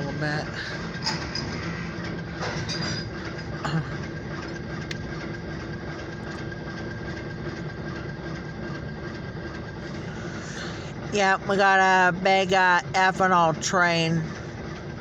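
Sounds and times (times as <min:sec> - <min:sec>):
thin steady whine: 0:00.0 - 0:15.0.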